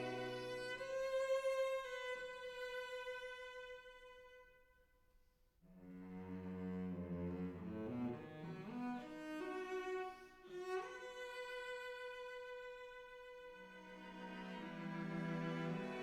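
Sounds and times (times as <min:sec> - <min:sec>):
bowed strings music: 0:00.0 - 0:04.4, 0:05.8 - 0:16.0.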